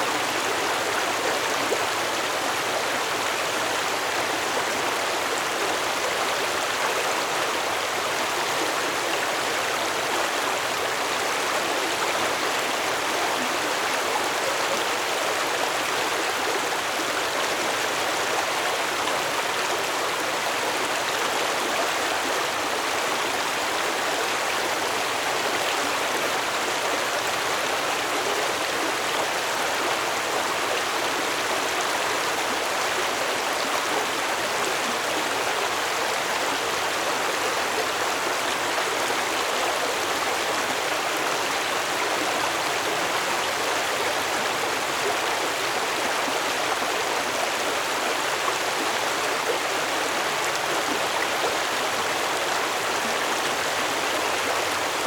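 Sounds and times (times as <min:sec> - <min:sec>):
stream water flowing over stones: 0:00.0 - 0:55.0.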